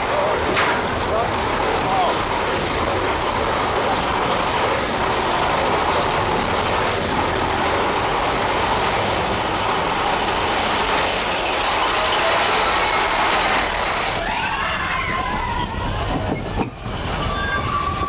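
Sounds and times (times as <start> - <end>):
roller coaster wheels rumbling on rails: 0.0 - 18.0.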